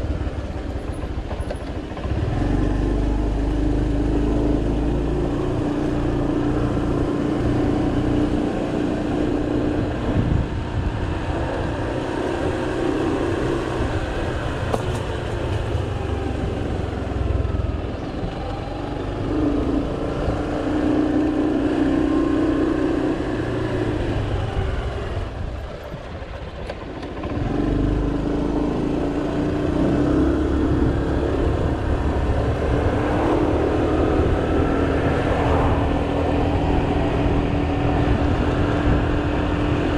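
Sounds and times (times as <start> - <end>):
motor scooter engine running: 0.0 - 39.9.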